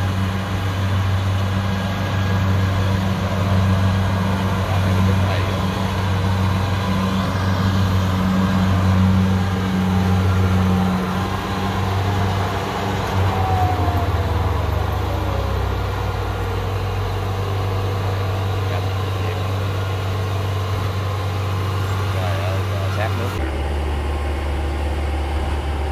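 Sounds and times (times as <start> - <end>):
combine harvester diesel engine: 0.0 - 25.9.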